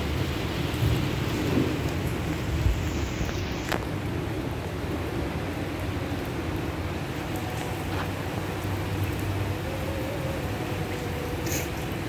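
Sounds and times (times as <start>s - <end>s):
rain falling on pavement: 0.0s - 12.0s.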